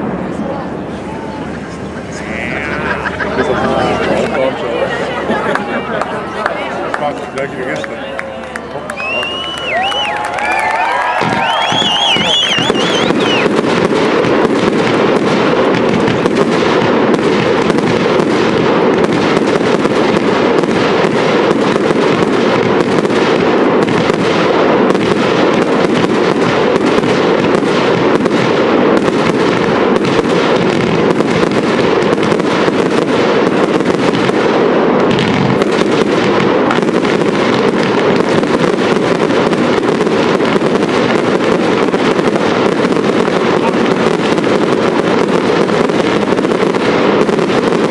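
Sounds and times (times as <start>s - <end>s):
fireworks bangs and crackle: 0.0s - 47.9s.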